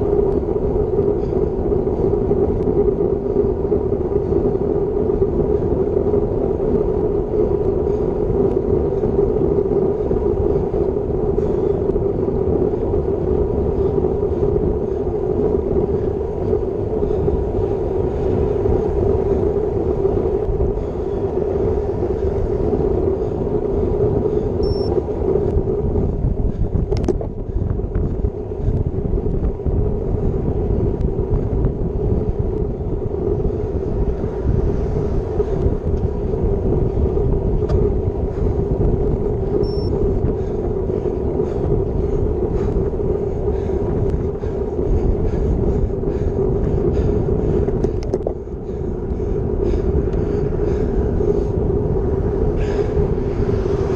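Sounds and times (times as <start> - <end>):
bike tyres rumbling on asphalt: 0.0 - 53.9
wind buffeting microphone: 0.0 - 53.9.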